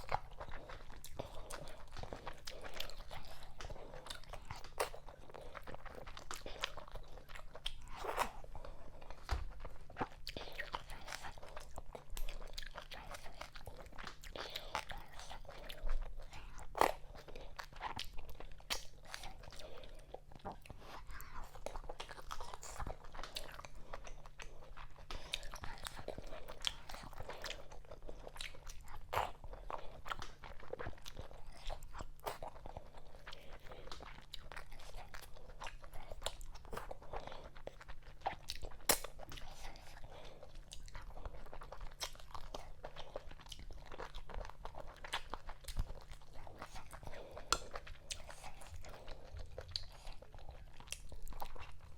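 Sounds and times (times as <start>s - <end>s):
faint steady hum: 0.0s - 51.9s
wet chewing: 0.0s - 51.9s.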